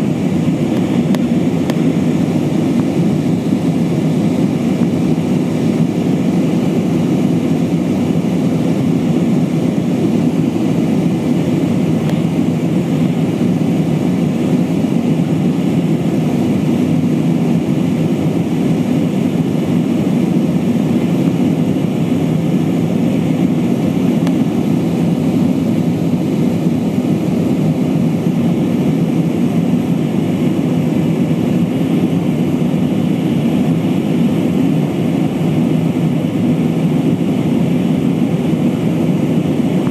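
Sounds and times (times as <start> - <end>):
faint high steady whine: 0.0 - 39.9
jet engine cabin rumble: 0.0 - 39.9.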